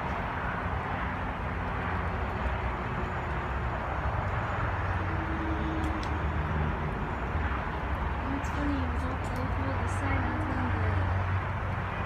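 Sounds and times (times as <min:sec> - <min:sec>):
freeway traffic hum: 0:00.0 - 0:12.0.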